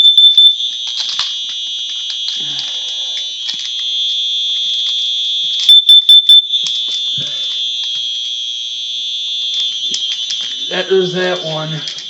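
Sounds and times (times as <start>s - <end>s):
smoke alarm beeps: 0.0s - 12.0s
smoke alarm high tone: 0.0s - 12.0s.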